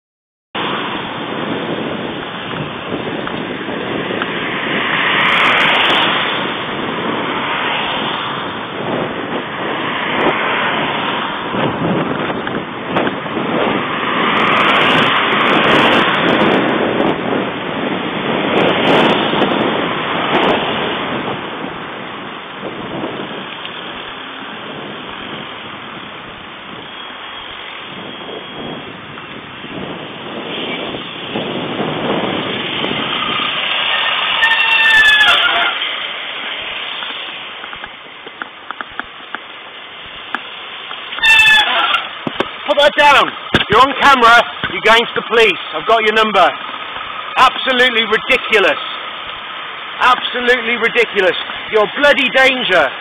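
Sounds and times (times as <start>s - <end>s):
passing traffic: 0.6s - 53.0s
wind rushing over microphone: 0.6s - 53.0s.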